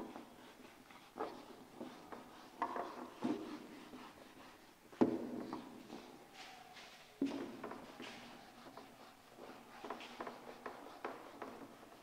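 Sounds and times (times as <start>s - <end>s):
duster wiping whiteboard: 0.0s - 12.0s.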